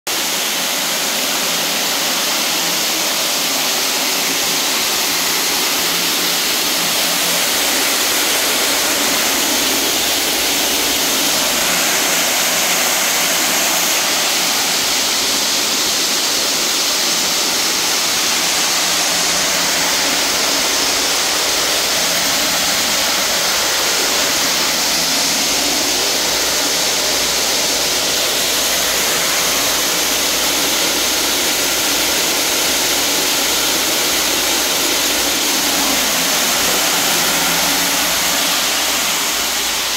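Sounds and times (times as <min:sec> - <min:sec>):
beans streaming down metal chute: 0:00.1 - 0:39.9.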